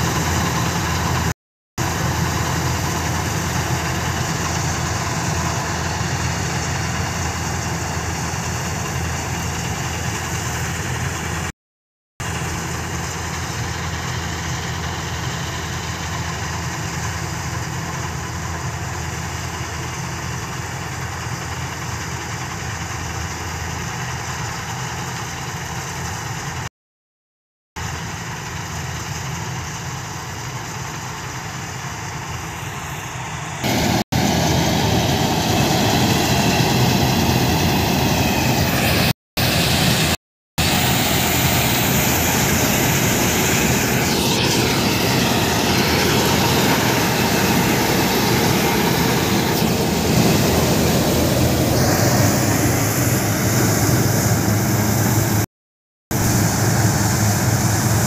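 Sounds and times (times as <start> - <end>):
combine harvester running: 0.0 - 11.5, 12.2 - 26.7, 27.8 - 55.4, 56.1 - 58.0.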